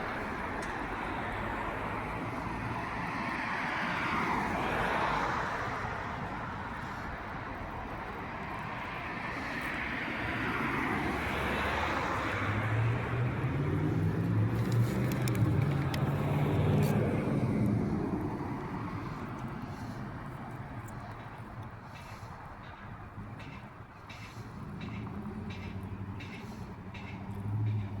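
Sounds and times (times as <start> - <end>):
cars passing by: 0.0 - 28.0.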